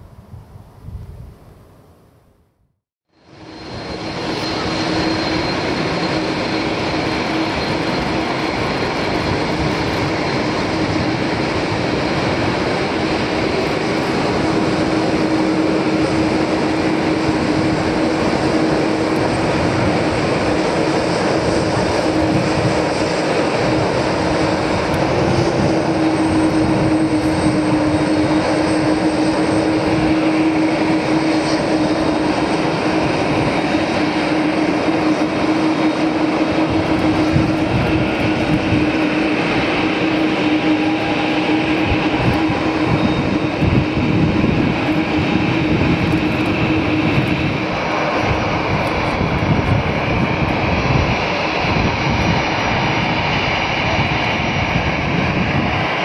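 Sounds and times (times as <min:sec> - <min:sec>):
high engine whine: 0:03.1 - 0:56.0
jet engines at taxi power: 0:03.1 - 0:56.0.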